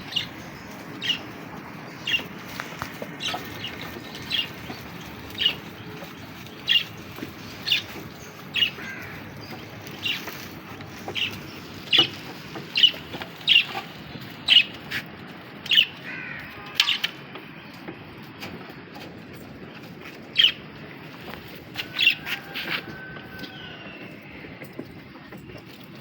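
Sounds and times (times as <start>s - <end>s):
birds chirping and squawking: 0.0s - 26.0s.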